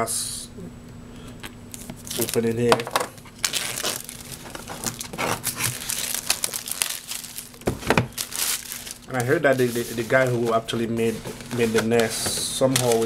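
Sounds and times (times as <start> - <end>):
plastic wrapping crinkling: 1.7 - 13.0.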